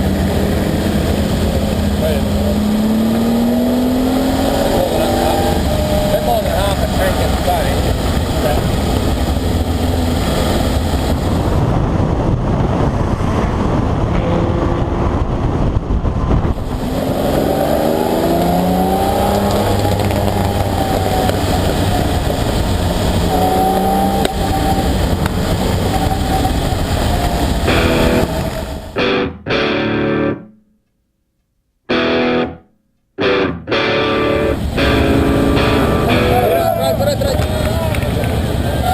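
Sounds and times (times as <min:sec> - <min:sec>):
rushing wind noise: 0:00.0 - 0:30.3, 0:33.5 - 0:38.9
car engine accelerating: 0:00.0 - 0:30.4, 0:33.2 - 0:38.9.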